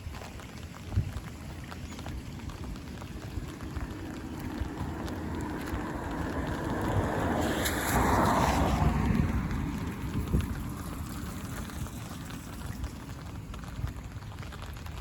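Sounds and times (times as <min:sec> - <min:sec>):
rain drops ticking: 0:00.0 - 0:15.0
low rumble on microphone: 0:00.2 - 0:15.0.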